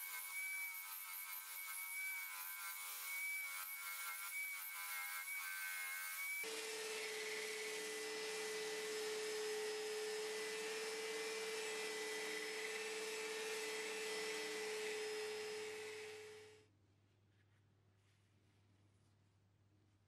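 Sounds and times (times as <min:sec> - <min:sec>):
electric drill whining: 0:00.0 - 0:16.6.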